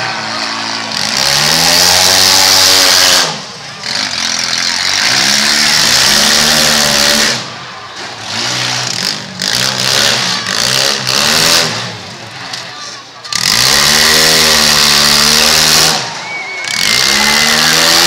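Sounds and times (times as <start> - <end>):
car engines revving hard: 0.0 - 18.0.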